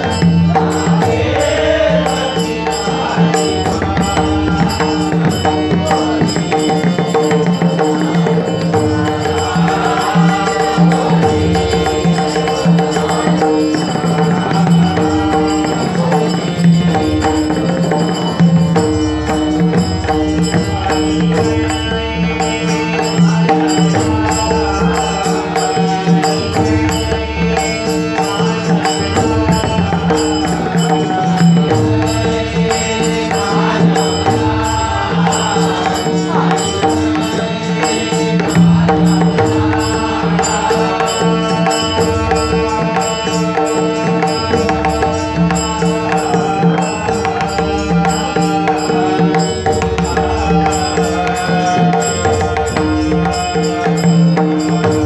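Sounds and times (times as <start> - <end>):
hand drum steady rhythm: 0.0 - 55.0.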